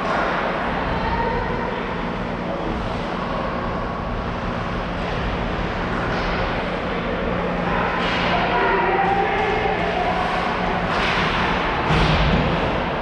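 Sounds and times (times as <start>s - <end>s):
ice hockey arena rumble: 0.0s - 13.0s.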